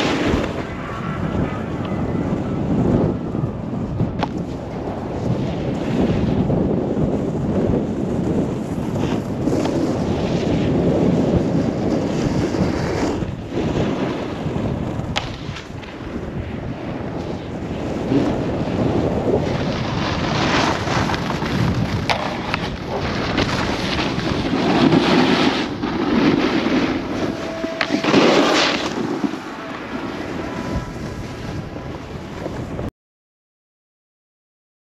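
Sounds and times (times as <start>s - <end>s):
snowboard edges scraping snow: 0.0s - 1.8s, 3.8s - 32.9s
wind buffeting microphone: 0.0s - 32.9s.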